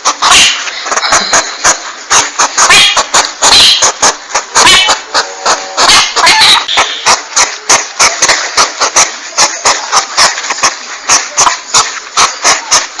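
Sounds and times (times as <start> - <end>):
hedgehog puffing call: 0.0 - 13.0.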